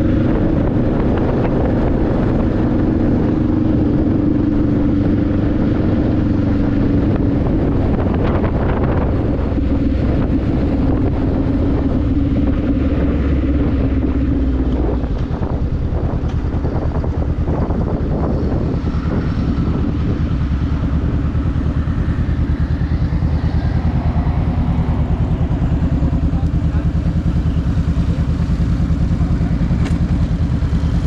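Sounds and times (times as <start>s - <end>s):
motorcycle engine running: 0.0s - 31.0s
wind on microphone: 0.0s - 31.0s.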